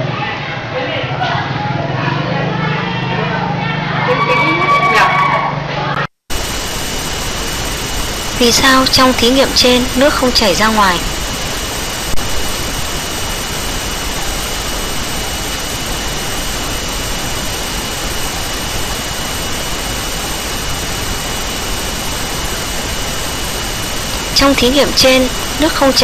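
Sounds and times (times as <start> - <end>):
faint high whine: 2.7 - 26.0
steady static hiss: 3.9 - 26.0.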